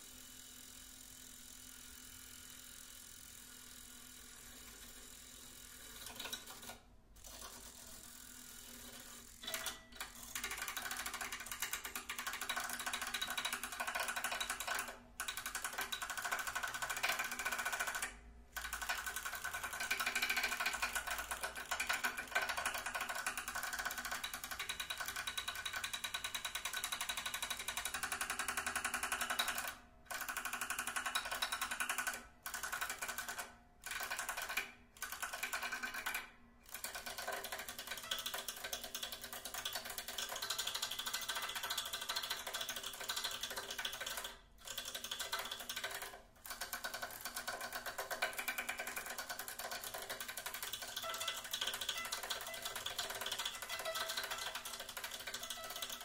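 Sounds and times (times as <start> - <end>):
mechanical chatter on guitar strings: 1.5 - 56.0.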